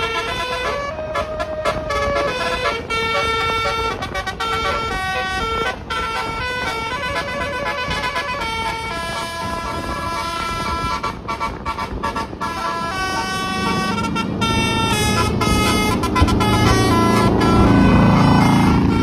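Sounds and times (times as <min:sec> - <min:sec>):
musical bus horn tune: 0:00.0 - 0:19.0.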